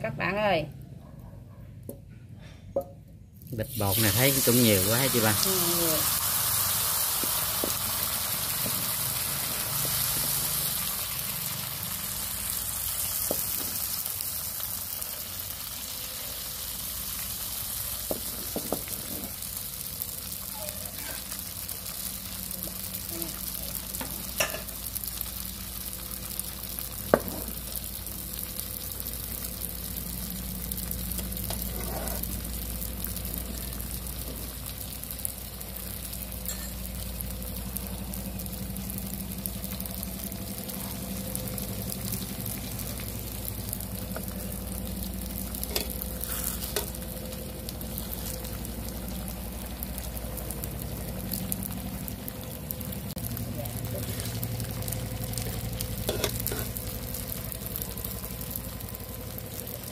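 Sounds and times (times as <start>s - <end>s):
batter sizzling in hot oil: 3.3s - 59.9s.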